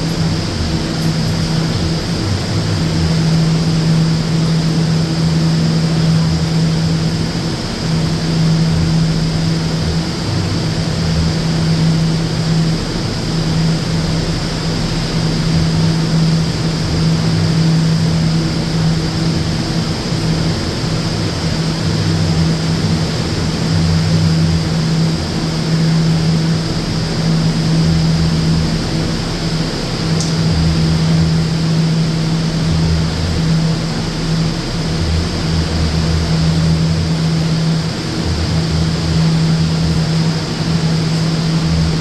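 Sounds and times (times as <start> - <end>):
air conditioning unit humming: 0.0 - 42.0.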